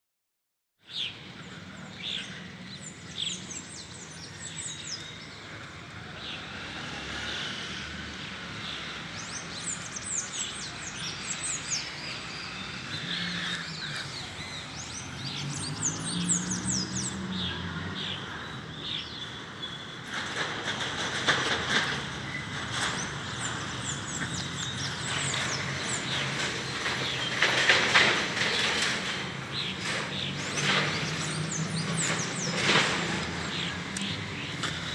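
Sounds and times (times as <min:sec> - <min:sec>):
birds chirping: 0:00.9 - 0:34.9.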